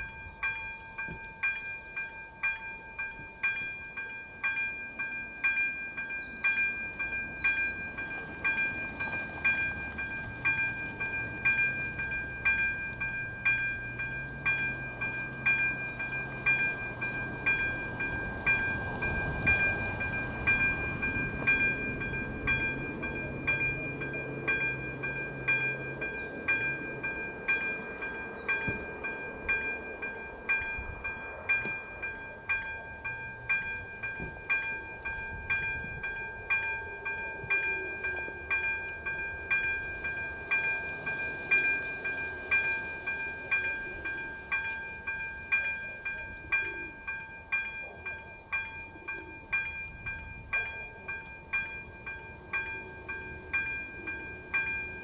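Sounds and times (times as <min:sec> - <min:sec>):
level crossing bell ringing: 0:00.0 - 0:55.0.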